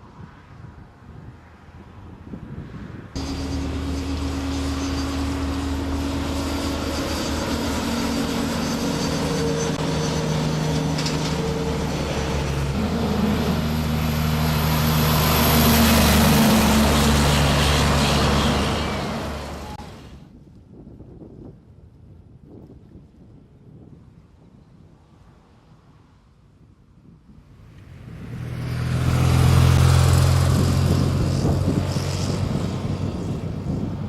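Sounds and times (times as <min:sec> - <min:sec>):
wind noise: 0:00.0 - 0:34.0.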